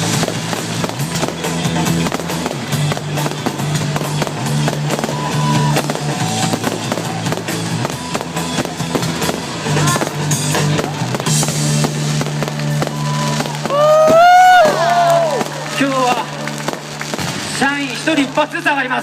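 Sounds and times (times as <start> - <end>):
music with held bass notes: 0.0 - 17.4
fireworks popping and crackling: 0.0 - 19.0.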